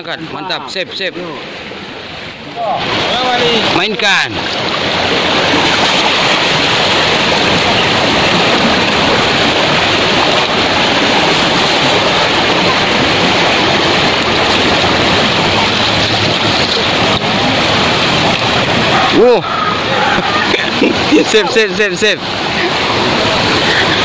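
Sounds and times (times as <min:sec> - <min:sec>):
river rushing around legs: 0:00.0 - 0:24.0.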